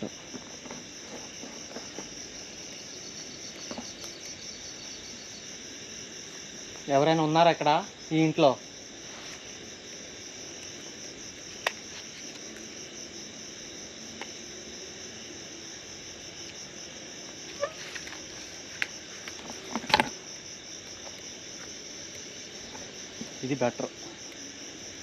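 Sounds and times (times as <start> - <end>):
crickets and insects trilling: 0.0 - 25.0.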